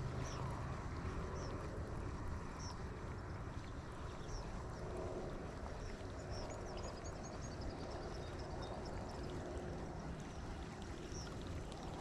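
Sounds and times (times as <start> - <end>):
low rumble of wind and water: 0.0 - 12.0.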